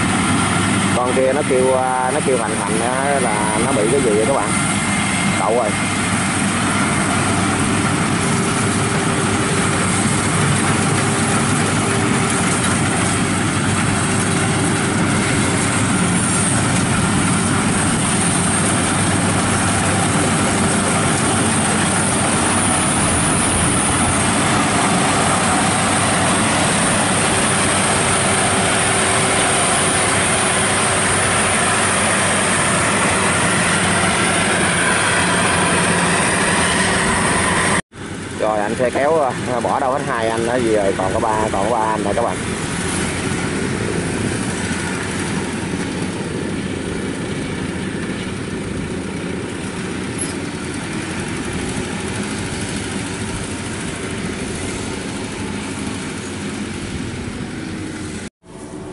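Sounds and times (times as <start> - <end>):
combine harvester machinery din: 0.0 - 58.9.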